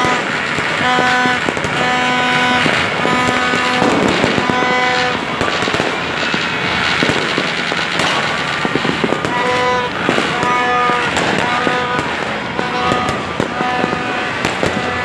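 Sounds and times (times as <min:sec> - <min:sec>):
car horns honking: 0:00.0 - 0:15.0
fireworks crackling and banging: 0:00.0 - 0:15.0.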